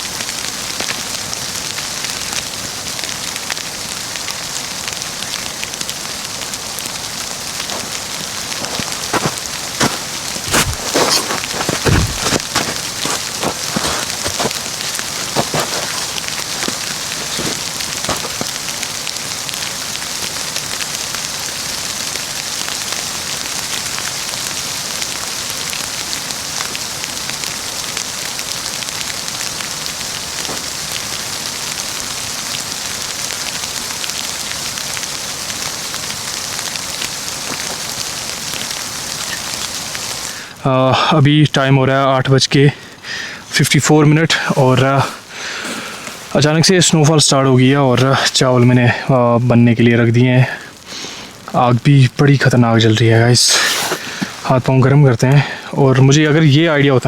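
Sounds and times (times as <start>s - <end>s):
campfire crackling: 0.0s - 41.2s, 42.2s - 57.0s
snow hissing on campfire: 0.0s - 41.2s, 42.4s - 57.0s.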